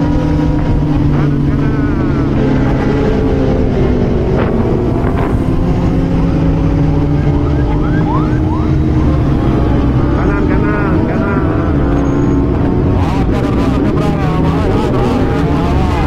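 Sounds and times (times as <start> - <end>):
heavy wind noise: 0.0 - 16.0
motorcycle engine cruising: 0.0 - 16.0.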